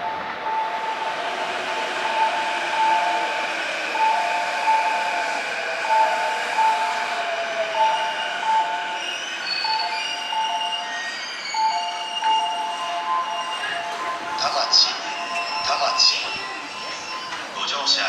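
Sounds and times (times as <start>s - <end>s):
train on the tracks: 0.0s - 18.0s.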